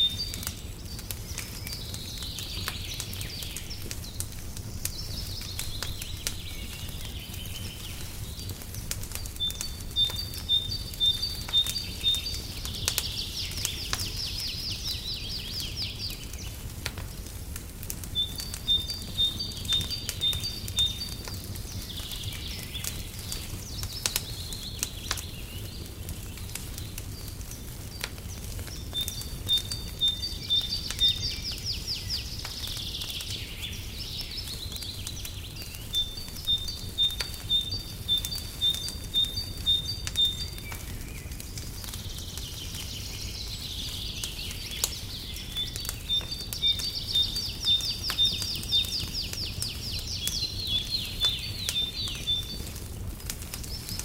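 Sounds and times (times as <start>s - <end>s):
fireplace crackling: 0.0s - 54.0s
songbird singing: 0.0s - 54.0s.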